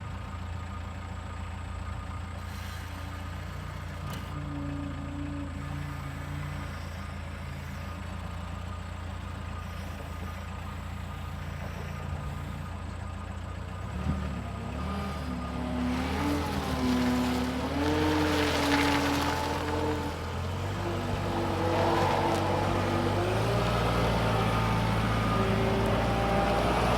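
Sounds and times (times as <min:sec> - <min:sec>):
diesel engine idling and revving: 0:00.0 - 0:26.9.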